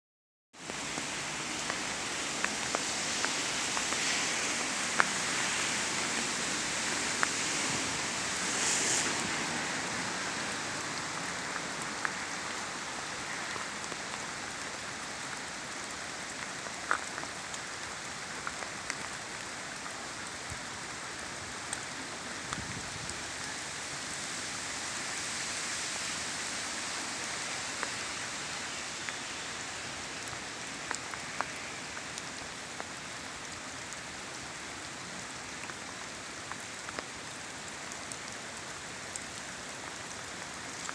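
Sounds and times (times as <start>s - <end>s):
raindrops ticking close by: 0.6s - 40.9s
steady rain falling: 0.6s - 40.9s.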